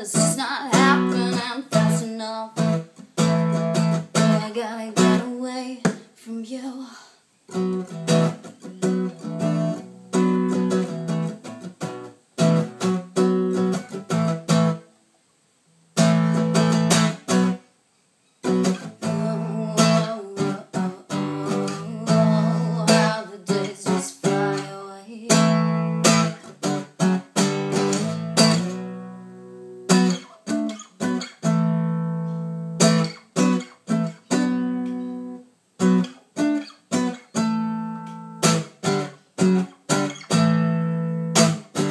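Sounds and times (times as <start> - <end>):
acoustic guitar strumming: 0.0 - 6.0, 7.5 - 15.0, 15.9 - 41.9.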